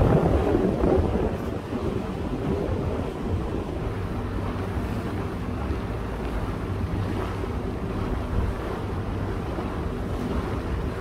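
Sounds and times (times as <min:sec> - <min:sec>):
boat engine drone: 0:00.0 - 0:11.0
water rushing along hull: 0:00.0 - 0:11.0
wind buffeting microphone: 0:00.0 - 0:11.0.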